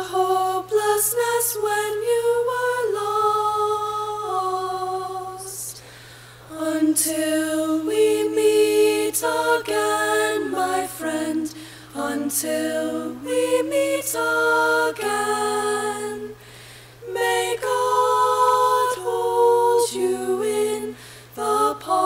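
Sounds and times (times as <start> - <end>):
young women singing in harmony: 0.0 - 5.8, 6.4 - 22.0.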